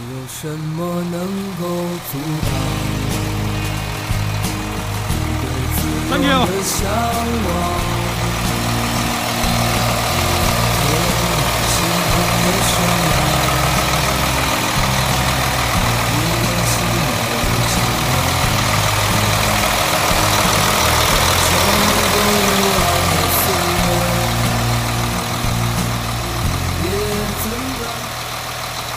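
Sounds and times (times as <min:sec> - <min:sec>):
diesel engine idling: 0:00.0 - 0:28.9
song playing: 0:02.0 - 0:28.2.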